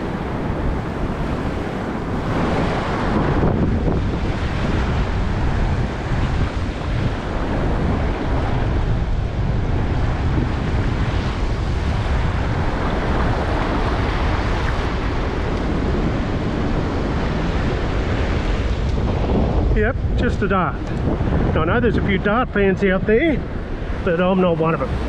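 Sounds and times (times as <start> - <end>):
surf washing up a beach: 0.0 - 25.0
wind buffeting the microphone: 0.0 - 25.0.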